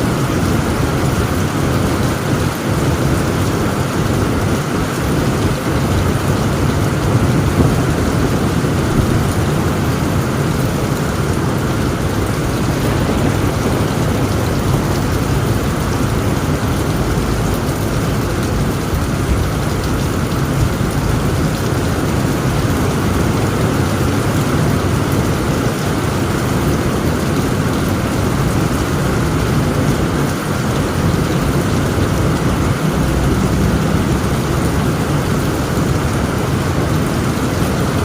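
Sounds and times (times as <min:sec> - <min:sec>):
heavy rain on a tent roof: 0:00.0 - 0:38.0
low rumble of thunder: 0:00.1 - 0:38.0.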